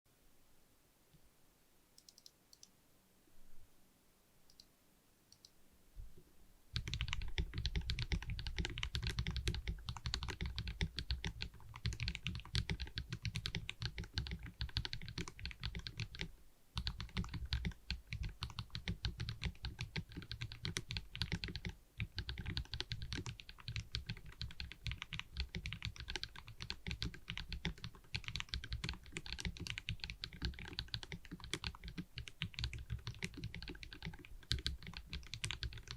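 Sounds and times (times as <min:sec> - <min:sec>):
mechanical keyboard typing: 0:06.8 - 0:35.9.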